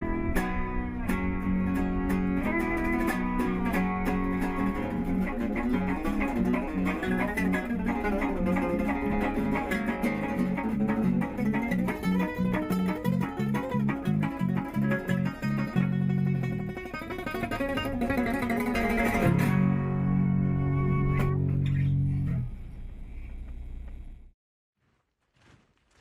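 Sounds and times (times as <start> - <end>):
guitar instrumental music: 0.0 - 22.5.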